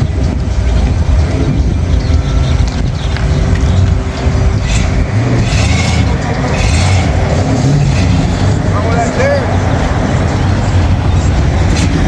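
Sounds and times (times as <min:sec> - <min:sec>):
loud engine rumbling unevenly: 0:00.0 - 0:12.0.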